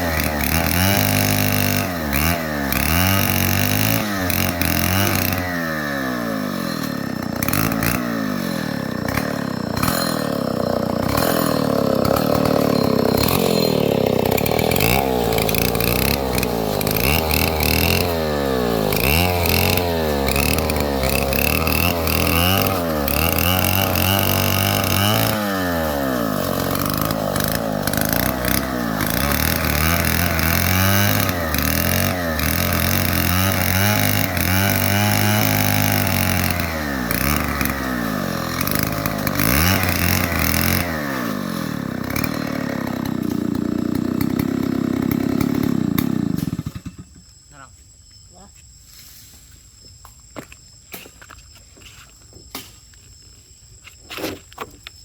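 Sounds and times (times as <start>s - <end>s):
chainsaw engine revving: 0.0s - 47.3s.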